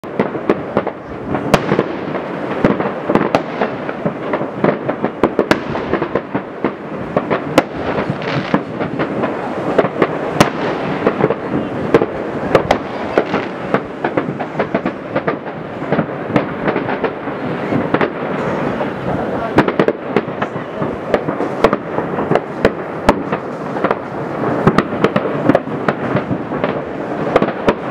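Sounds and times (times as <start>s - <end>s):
fireworks rumble of bangs: 0.0s - 27.9s
sharp firework cracks: 0.0s - 27.9s.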